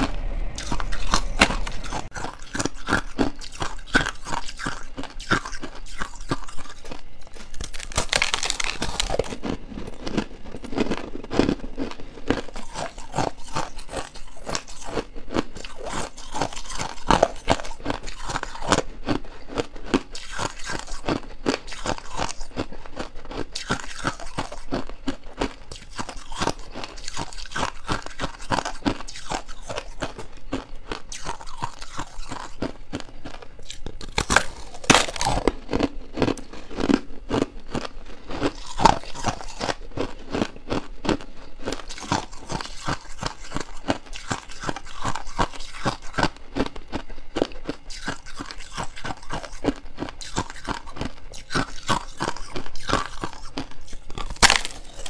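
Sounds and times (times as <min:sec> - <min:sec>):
chewing crunchy ice: 0:00.0 - 0:55.0.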